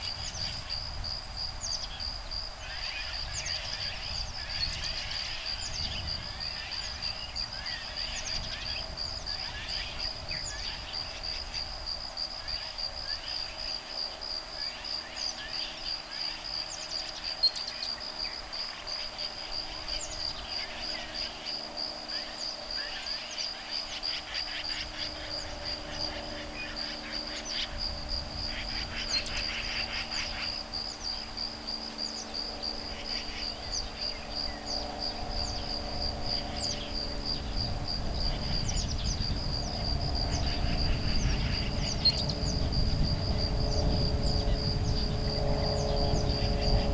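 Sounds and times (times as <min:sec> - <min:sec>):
cricket trilling: 0:00.0 - 0:46.9
faint low hum: 0:00.0 - 0:46.9.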